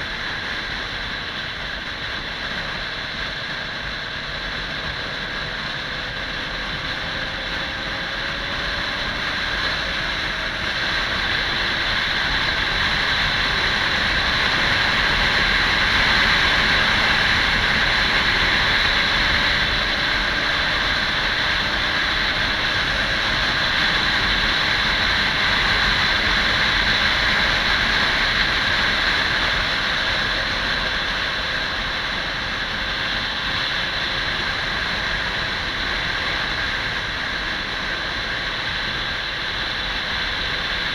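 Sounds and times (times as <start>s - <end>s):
motorcycle engine and wind noise: 0.0s - 40.9s.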